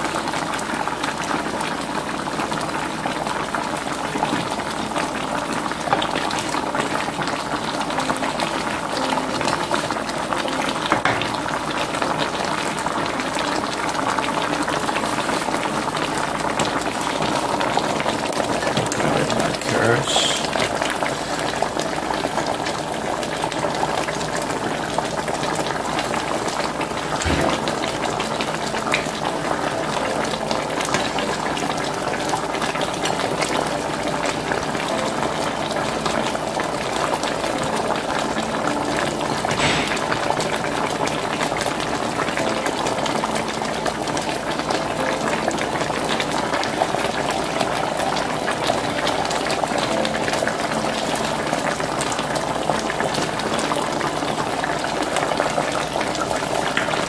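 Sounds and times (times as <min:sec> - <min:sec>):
stew bubbling in a pan: 0:00.0 - 0:57.0.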